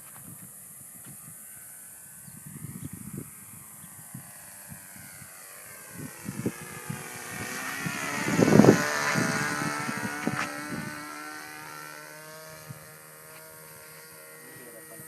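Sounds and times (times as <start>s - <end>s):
model airplane engine whine: 0.0s - 15.0s.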